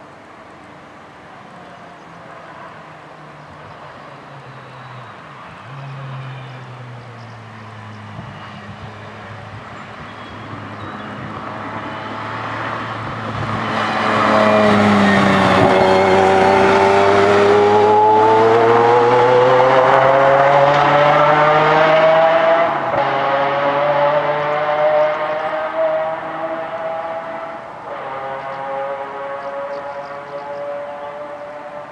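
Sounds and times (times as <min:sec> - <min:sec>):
car engine accelerating hard: 0:05.4 - 0:31.9.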